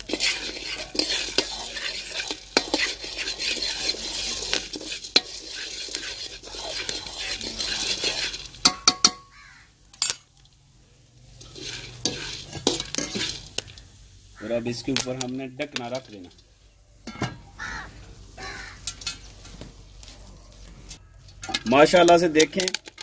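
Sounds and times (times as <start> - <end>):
wire skimmer scraping kernels: 0.0 - 10.1, 11.3 - 16.5, 17.1 - 23.0
metal spoon scraping pan: 0.0 - 10.3, 11.3 - 19.5, 21.0 - 23.0
kernels rattling in pan: 0.0 - 10.6, 11.2 - 19.6, 21.0 - 23.0.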